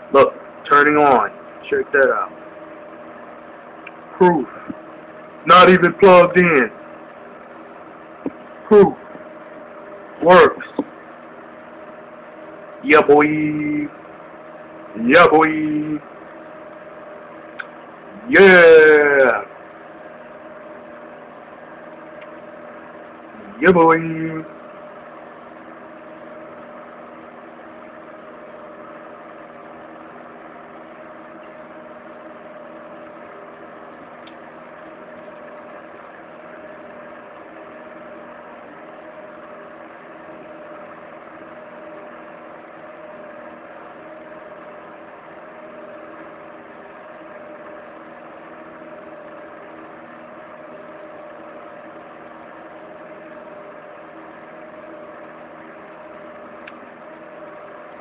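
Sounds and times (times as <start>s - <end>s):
hot-air blower running: 0.0s - 58.0s.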